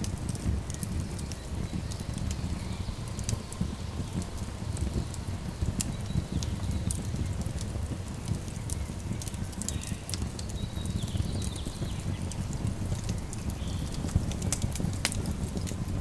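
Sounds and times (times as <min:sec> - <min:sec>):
fire rumbling: 0:00.0 - 0:16.0
wood fire crackling: 0:00.0 - 0:16.0.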